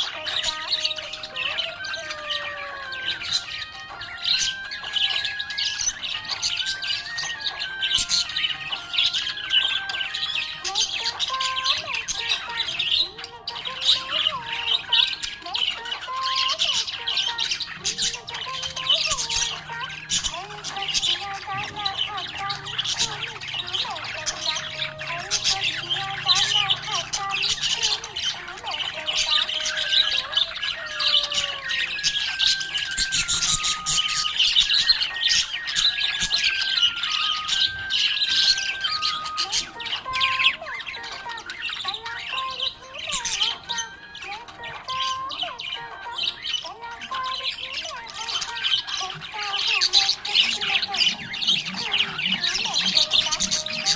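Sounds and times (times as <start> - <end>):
budgerigars chirping and warbling: 0.0 - 53.9.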